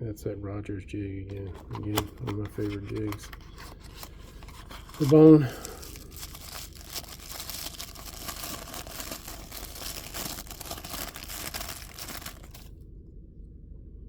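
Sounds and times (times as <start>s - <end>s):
packaging crinkling and rustling: 1.3s - 12.7s.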